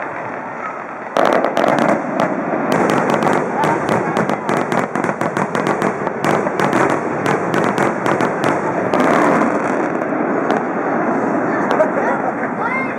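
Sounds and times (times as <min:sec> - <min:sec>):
fireworks bursting and crackling: 0:00.0 - 0:12.9
noisy rumble: 0:00.0 - 0:12.9.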